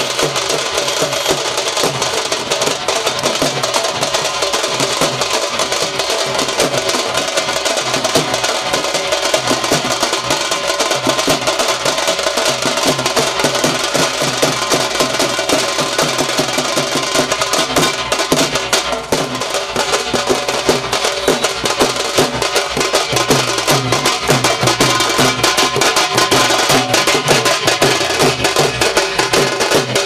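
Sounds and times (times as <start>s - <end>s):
drums playing fast rhythm: 0.0s - 30.0s.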